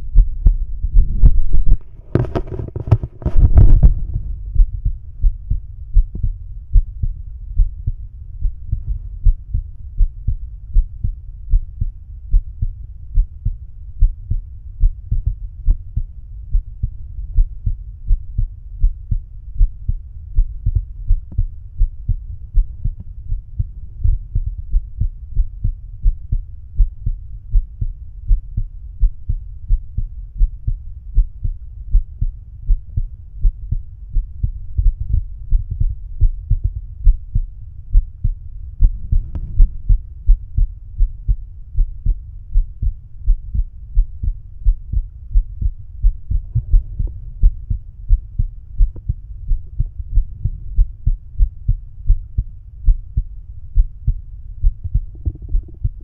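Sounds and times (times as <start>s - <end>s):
heartbeat through stethoscope: 0.0s - 56.0s.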